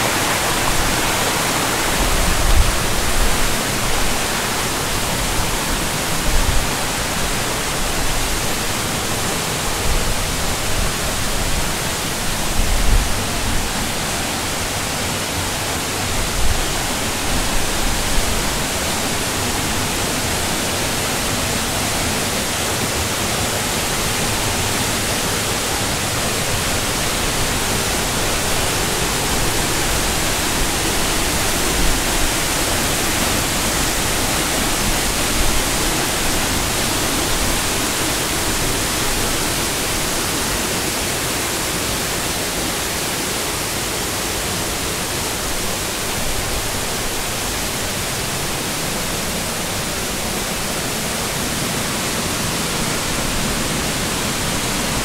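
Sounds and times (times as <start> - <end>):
waterfall splashing into pool: 0.0 - 55.0.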